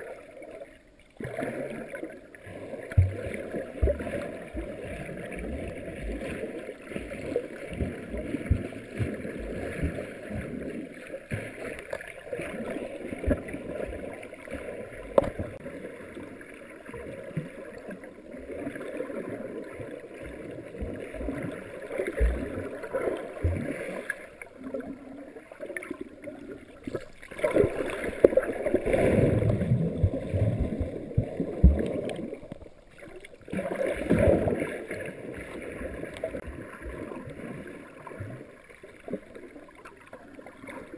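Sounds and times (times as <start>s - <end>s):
muffled water sloshing underwater: 0.0s - 40.9s.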